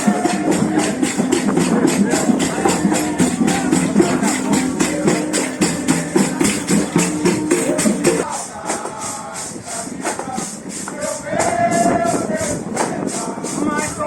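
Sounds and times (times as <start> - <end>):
tambourines and shakers beat: 0.0 - 14.0.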